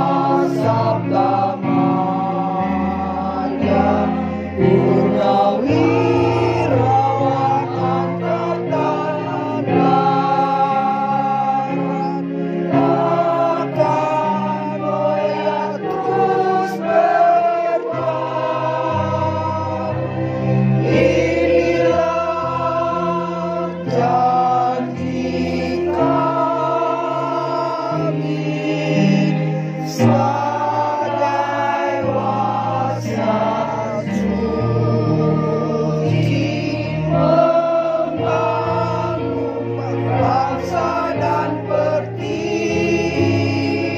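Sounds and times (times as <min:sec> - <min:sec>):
low steady accompaniment: 0:00.0 - 0:43.9
women's choir singing: 0:00.0 - 0:43.9.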